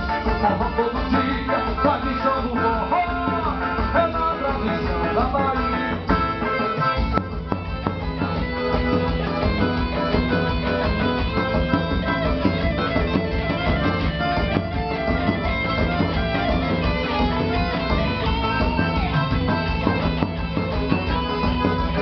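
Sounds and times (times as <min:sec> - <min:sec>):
live band music: 0:00.0 - 0:22.0.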